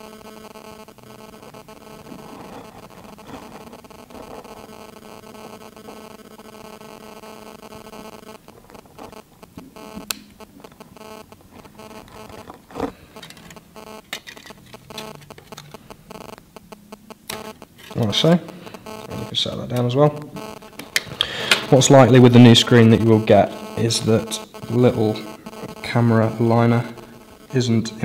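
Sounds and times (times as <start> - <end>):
faint electrical hum: 0.0 - 28.0.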